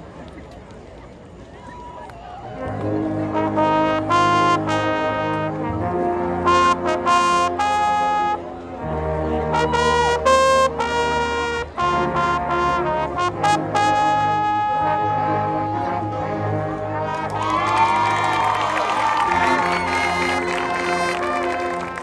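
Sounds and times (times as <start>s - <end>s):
marching band playing: 2.6s - 22.0s
sustained low brass: 2.6s - 22.0s
trumpets and trombones: 2.6s - 22.0s.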